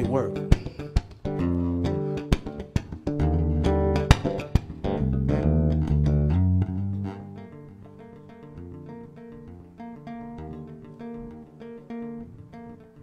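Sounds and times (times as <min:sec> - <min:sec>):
electric bass guitar: 0:00.0 - 0:13.0.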